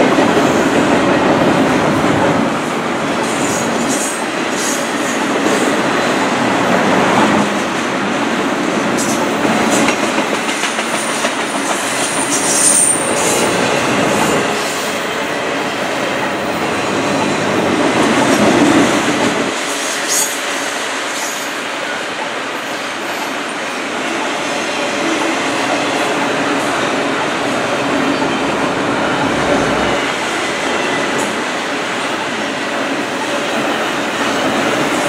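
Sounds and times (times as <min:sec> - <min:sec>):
train wheels rolling on rails: 0:00.0 - 0:35.0.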